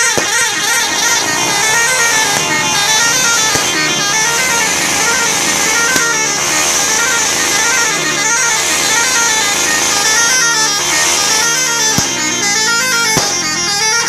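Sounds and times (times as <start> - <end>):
multi-tone musical bus horn: 0.0 - 14.0.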